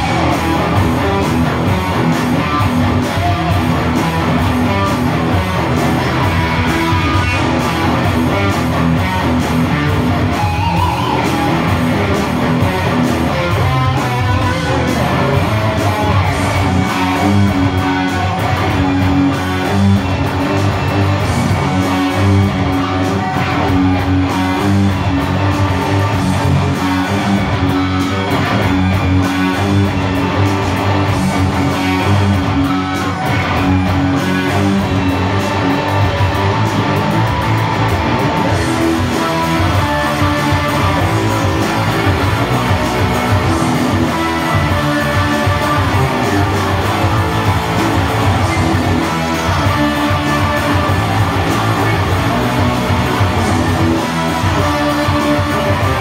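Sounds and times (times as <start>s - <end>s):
picked electric guitar: 0.0s - 56.0s
steady low bass: 0.0s - 56.0s.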